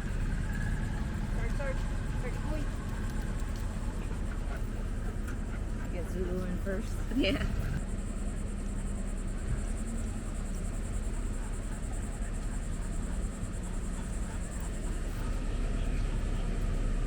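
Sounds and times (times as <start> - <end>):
engine low rumble: 0.0 - 17.0
insects buzzing: 0.0 - 17.0.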